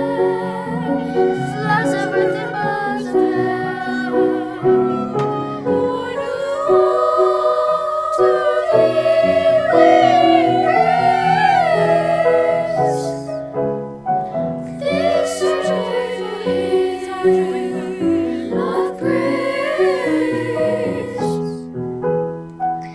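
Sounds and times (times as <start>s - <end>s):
voices singing gliding melody: 0.0s - 22.4s
steady musical accompaniment: 0.0s - 22.8s.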